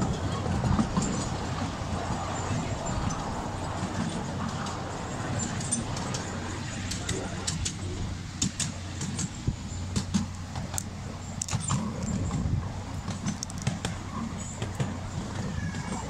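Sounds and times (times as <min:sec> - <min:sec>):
miniature train rumbling on track: 0:00.0 - 0:16.0.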